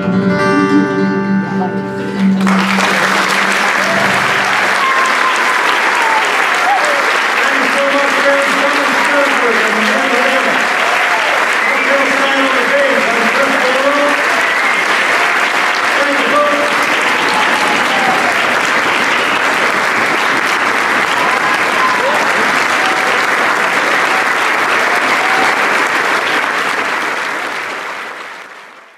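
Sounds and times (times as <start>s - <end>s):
audience applauding: 2.2s - 28.9s
people cheering: 2.2s - 28.9s.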